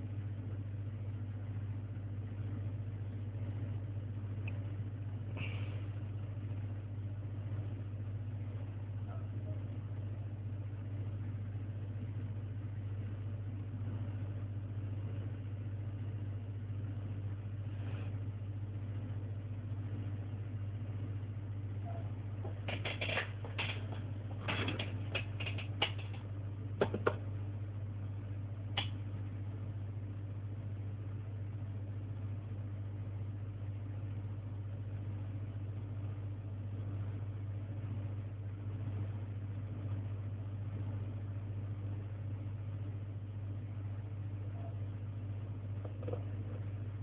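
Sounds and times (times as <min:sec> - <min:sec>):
low hum with hiss: 0:00.0 - 0:47.0.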